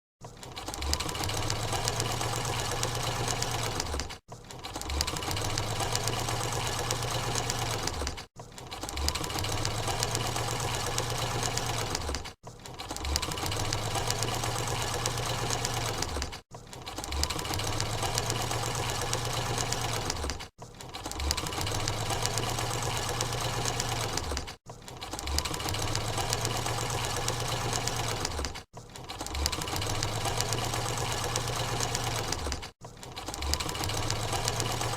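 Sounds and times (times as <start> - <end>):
sewing machine stitching rapidly: 0.2 - 34.9.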